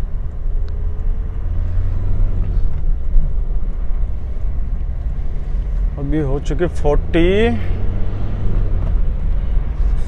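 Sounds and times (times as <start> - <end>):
car engine accelerating: 0.0 - 10.0
road rumble: 0.0 - 10.0.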